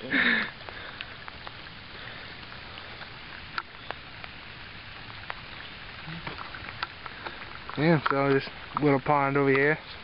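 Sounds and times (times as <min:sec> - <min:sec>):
steady hiss: 0:00.0 - 0:10.0
water dripping: 0:00.0 - 0:10.0.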